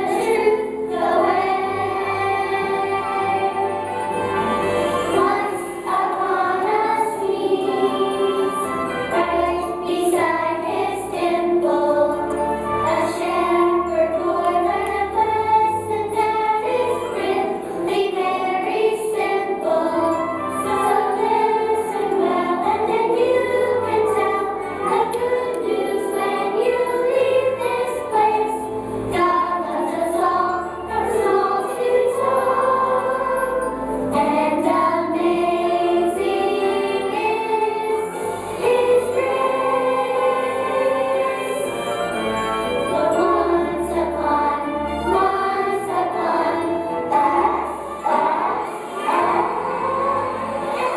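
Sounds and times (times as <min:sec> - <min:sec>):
choir singing with accompaniment: 0:00.0 - 0:50.9.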